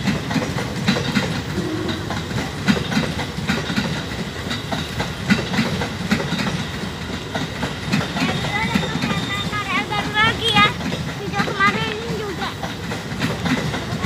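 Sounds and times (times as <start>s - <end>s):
train low rumble: 0.0s - 14.0s
train wheels clattering over rail joints: 0.0s - 14.0s.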